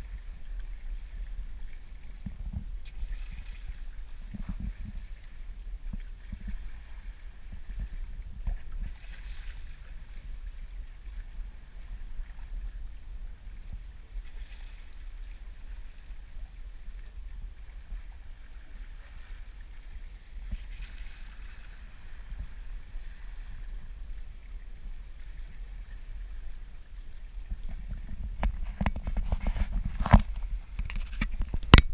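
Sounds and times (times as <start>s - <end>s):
sea water splashing along bow: 0.0s - 31.9s
steady low rumble: 0.0s - 31.9s.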